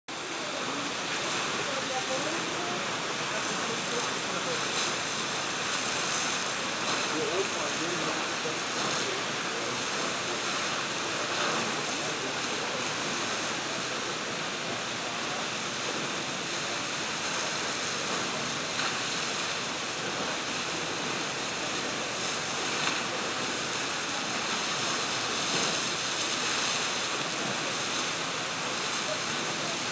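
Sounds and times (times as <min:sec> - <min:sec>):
fountain spray falling into basin: 0:00.2 - 0:29.9.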